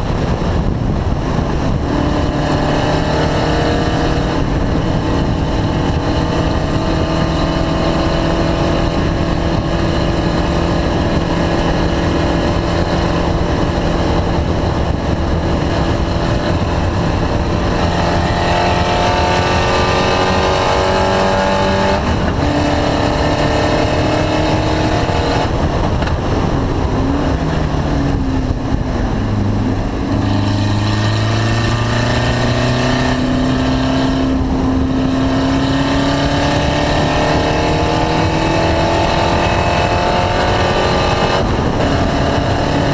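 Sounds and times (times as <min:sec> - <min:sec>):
race car engine running: 0:00.0 - 0:42.9.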